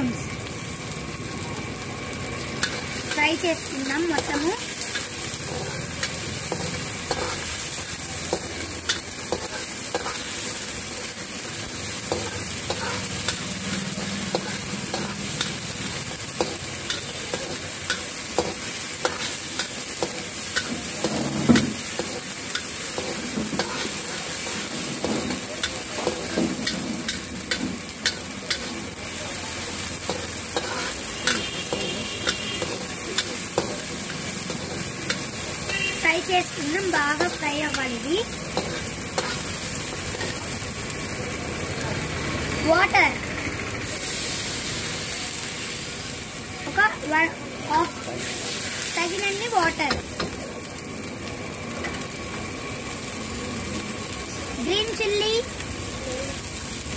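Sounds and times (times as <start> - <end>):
vegetables sizzling in hot oil: 0.0 - 56.9.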